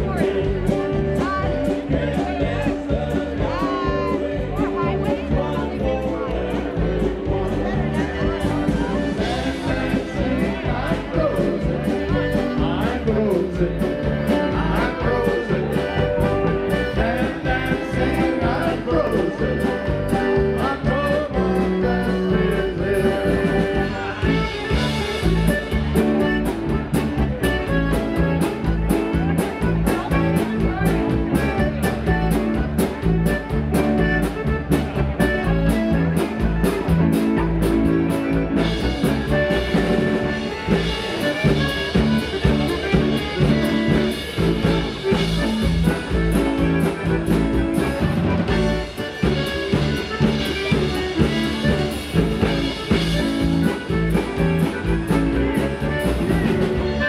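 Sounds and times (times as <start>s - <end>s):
accordion: 0.0s - 57.0s
polka band playing: 0.0s - 57.0s.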